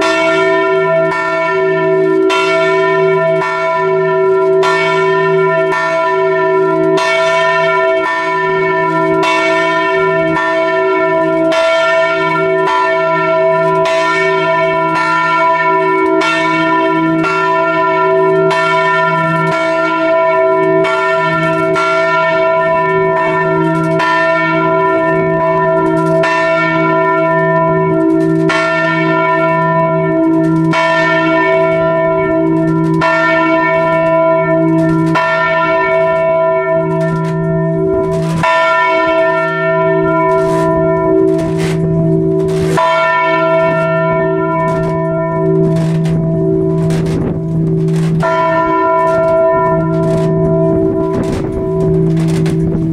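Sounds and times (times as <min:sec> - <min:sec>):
church bell ringing: 0:00.0 - 0:52.9.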